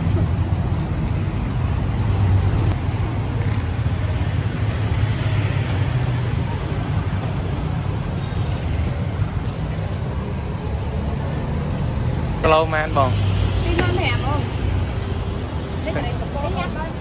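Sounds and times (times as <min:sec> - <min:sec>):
rumble of street noise: 0:00.0 - 0:17.0.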